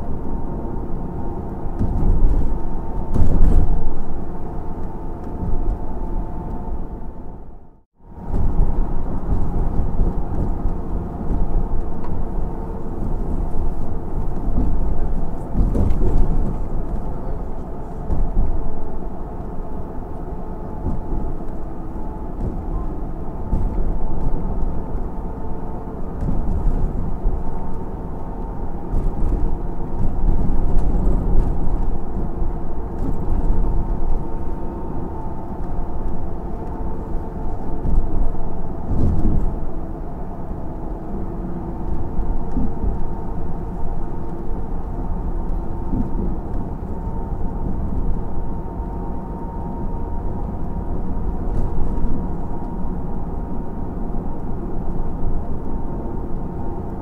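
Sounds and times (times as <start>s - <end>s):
vehicle rumble from inside: 0.0s - 57.0s.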